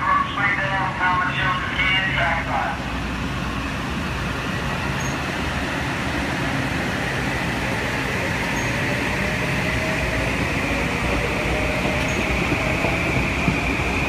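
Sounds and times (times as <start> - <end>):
train hum and rumble: 0.0 - 14.0.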